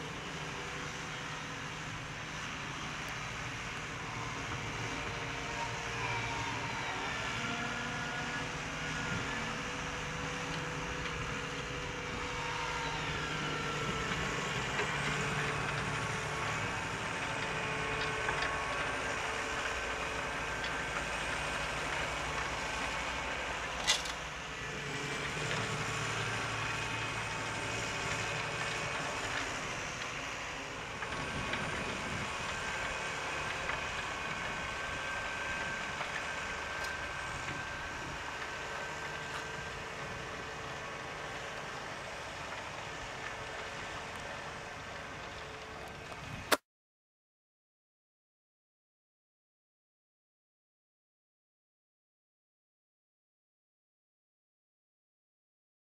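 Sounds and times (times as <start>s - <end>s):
tractor diesel engine under load: 0.0s - 46.6s.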